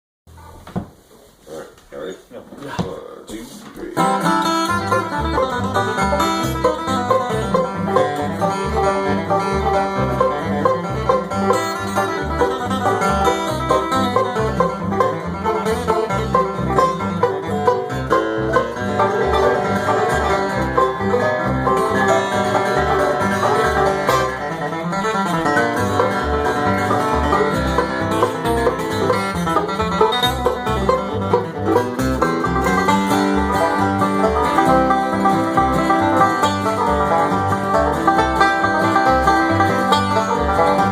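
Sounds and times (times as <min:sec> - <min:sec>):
banjo picking: 0:02.8 - 0:40.9
bluegrass band playing: 0:03.1 - 0:40.9.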